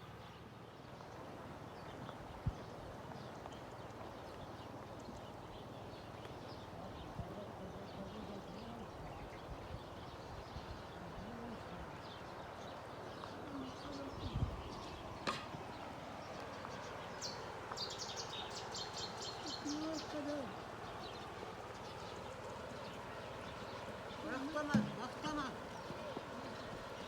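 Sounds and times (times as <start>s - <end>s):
birds chirping: 0.0s - 27.0s
river flowing: 0.0s - 27.0s
faint distant voices: 5.0s - 27.0s.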